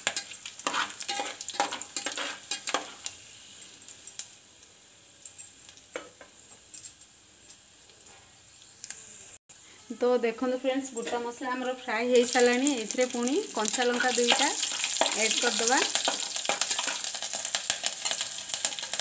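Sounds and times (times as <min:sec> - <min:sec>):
spices sizzling in hot oil: 0:00.0 - 0:09.4, 0:10.0 - 0:19.0.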